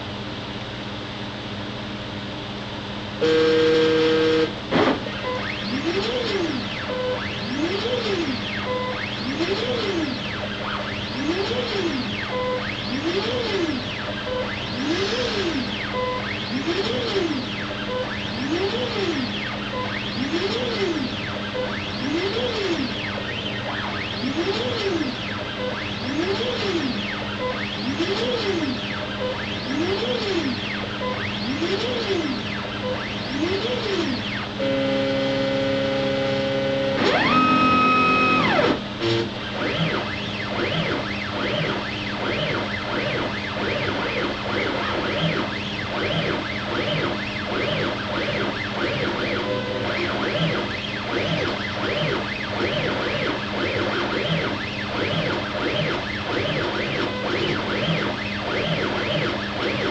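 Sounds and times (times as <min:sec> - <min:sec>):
loud steady tone: 0:03.2 - 0:59.9
stepper motors whining: 0:03.2 - 0:59.9.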